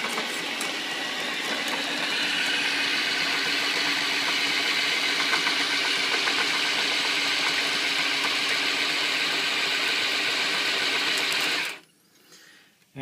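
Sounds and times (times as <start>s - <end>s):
electric drill running: 0.0s - 11.8s.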